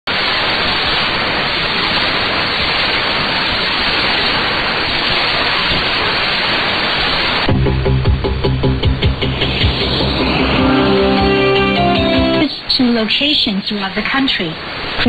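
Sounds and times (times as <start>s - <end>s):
shortwave static hiss: 0.1s - 15.0s.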